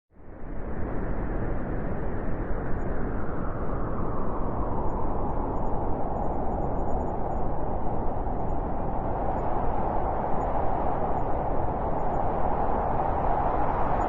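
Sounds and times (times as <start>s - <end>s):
blizzard wind through forest: 0.1s - 14.0s.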